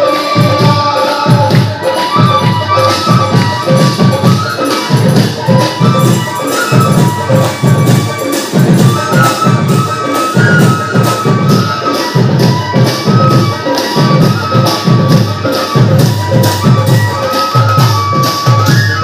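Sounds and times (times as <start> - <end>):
devotional music: 0.0 - 19.0
steady drum beat: 0.0 - 19.0.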